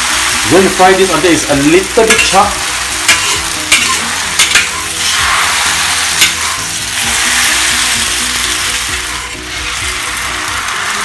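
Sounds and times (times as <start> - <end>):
noodles sizzling in a wok: 0.0 - 11.0
metal spatula scraping a wok: 1.8 - 11.0.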